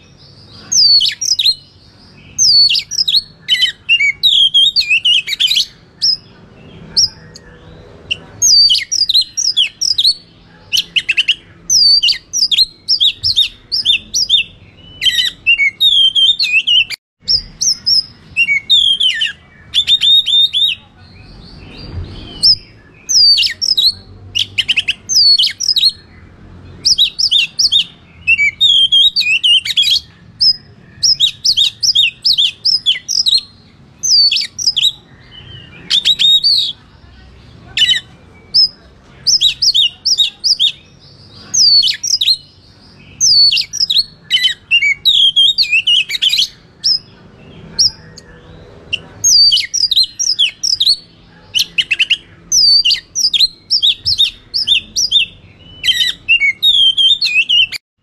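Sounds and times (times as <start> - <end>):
magpie-robin singing: 0.0 - 57.8.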